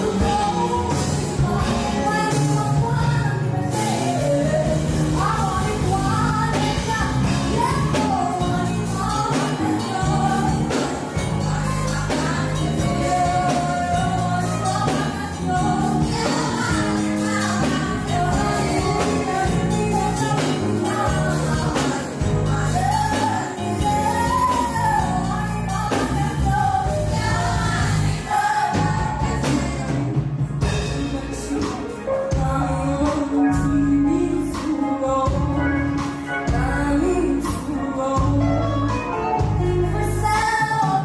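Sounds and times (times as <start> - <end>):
band accompaniment with bass line: 0.0 - 41.0
person singing: 0.0 - 41.0.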